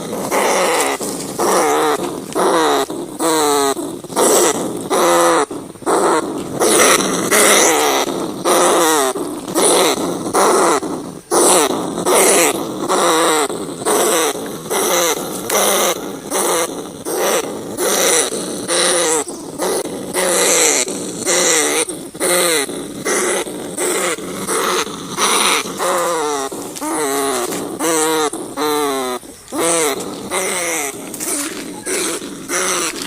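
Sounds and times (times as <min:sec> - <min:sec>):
rat squealing and growling: 0:00.0 - 0:33.0.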